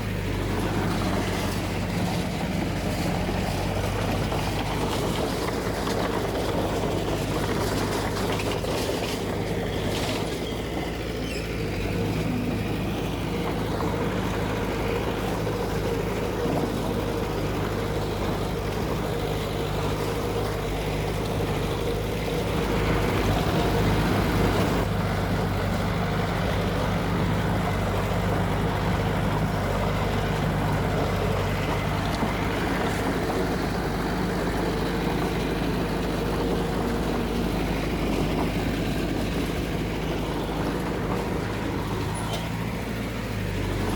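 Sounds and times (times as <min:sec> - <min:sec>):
diesel machinery engine running: 0:00.0 - 0:43.9.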